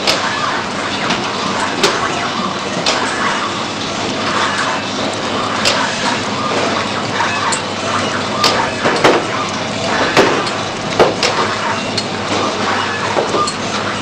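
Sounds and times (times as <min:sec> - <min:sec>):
packaging machine running: 0:00.0 - 0:14.0
sharp machine clicks: 0:00.0 - 0:14.0.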